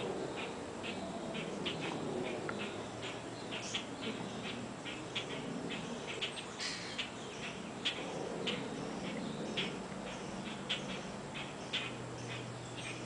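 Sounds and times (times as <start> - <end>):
low background hum: 0.0 - 13.0
small birds chirping: 0.0 - 13.0.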